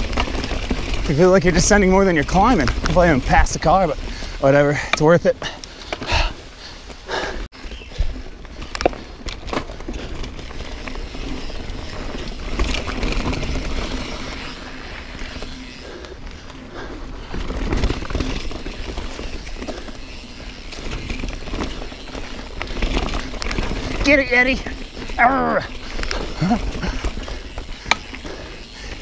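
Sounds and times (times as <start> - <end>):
bike rattling: 0.0 - 29.0
bike tyres rolling over dirt: 0.0 - 29.0.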